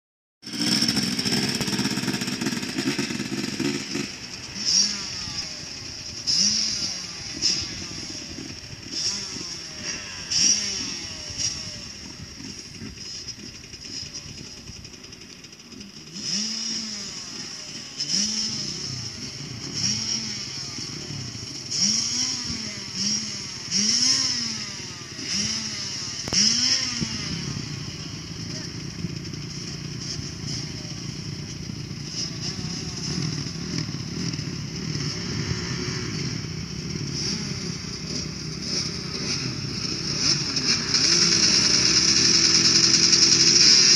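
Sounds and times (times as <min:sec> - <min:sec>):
dirt bike engines revving: 0:00.4 - 0:43.9.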